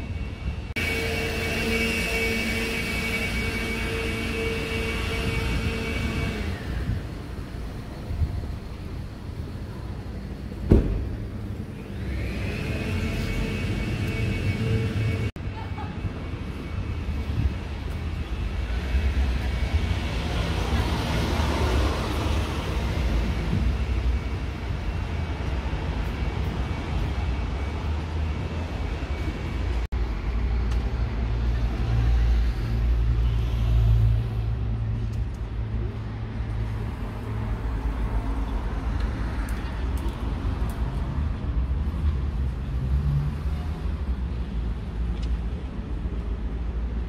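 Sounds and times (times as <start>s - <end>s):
city traffic rumble: 0.0s - 47.0s.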